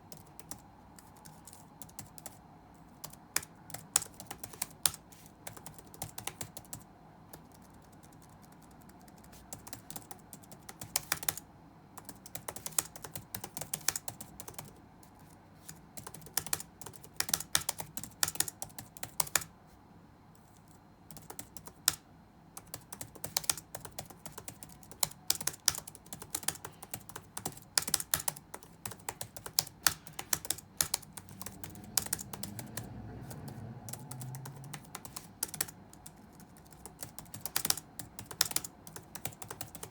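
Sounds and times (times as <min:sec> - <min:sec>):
keyboard typing clicks: 0:03.0 - 0:11.4, 0:12.0 - 0:14.8, 0:15.6 - 0:19.5, 0:21.1 - 0:22.0, 0:22.6 - 0:39.9.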